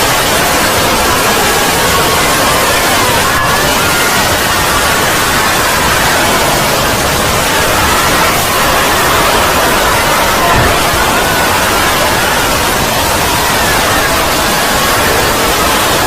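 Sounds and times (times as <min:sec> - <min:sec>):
loud static hiss: 0:00.0 - 0:16.0.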